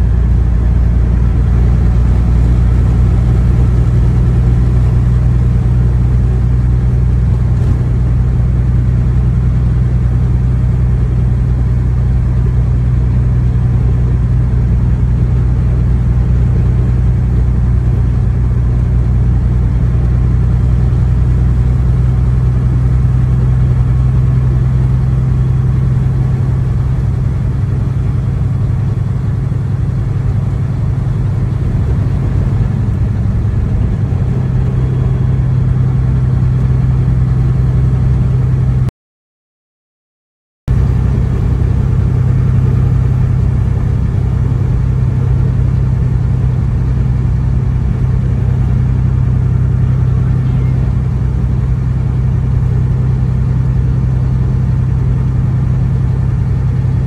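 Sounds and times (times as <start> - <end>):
road noise: 0.0 - 38.9, 40.7 - 57.0
truck engine drone: 0.0 - 38.9, 40.7 - 57.0.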